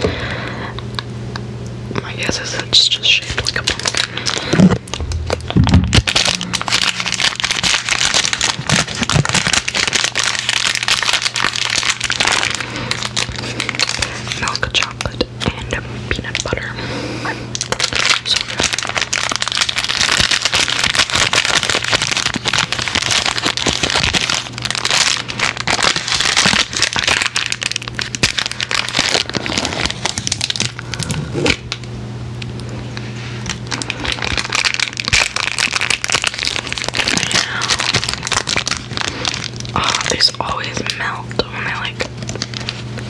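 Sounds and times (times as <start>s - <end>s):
steady low hum: 0.0s - 43.0s
candy wrapper crinkling: 2.0s - 16.7s, 17.5s - 31.8s, 32.4s - 43.0s.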